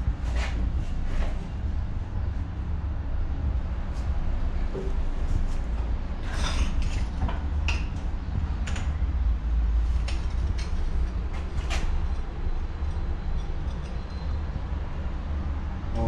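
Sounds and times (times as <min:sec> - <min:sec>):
low machinery rumble: 0:00.0 - 0:16.0.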